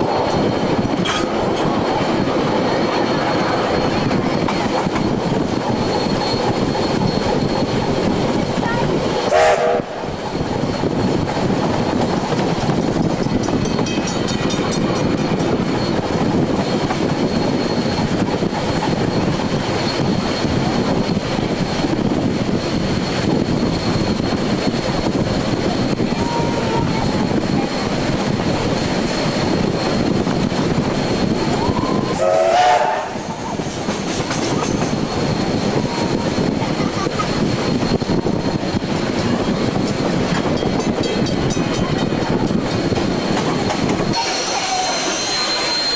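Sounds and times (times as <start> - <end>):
train rumbling on track: 0.0 - 45.9.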